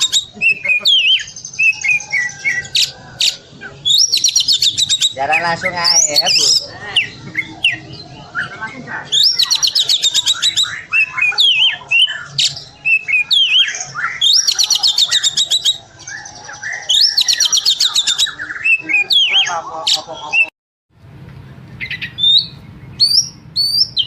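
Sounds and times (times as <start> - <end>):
magpie-robin singing: 0.0 - 20.5, 21.8 - 24.0.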